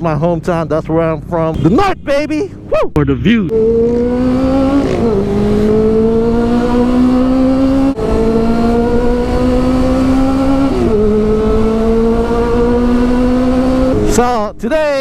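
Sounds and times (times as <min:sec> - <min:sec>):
motorcycle engine accelerating: 0:00.5 - 0:14.5.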